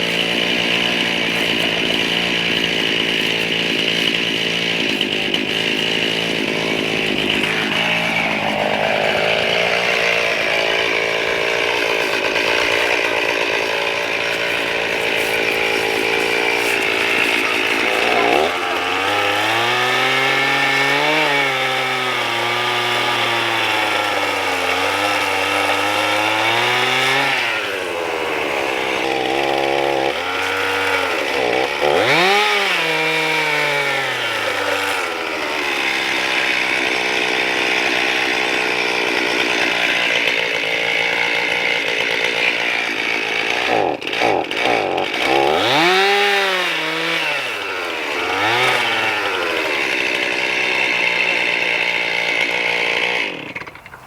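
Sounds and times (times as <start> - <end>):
chainsaw cutting limbs: 0.0 - 54.0.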